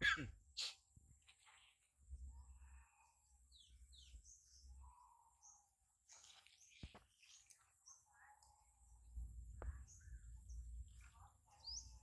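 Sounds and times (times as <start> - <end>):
faint bird chirps: 0.5 - 12.0.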